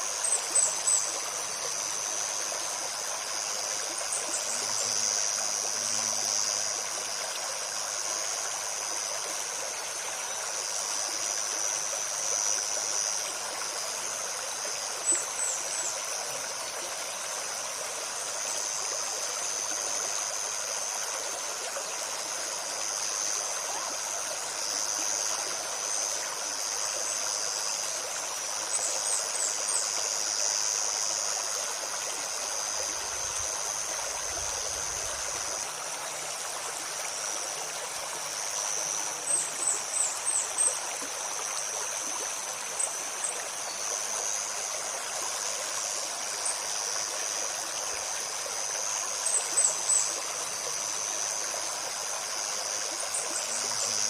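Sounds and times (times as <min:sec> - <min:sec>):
insects buzzing: 0:00.0 - 0:54.0
stream babbling: 0:00.0 - 0:54.0.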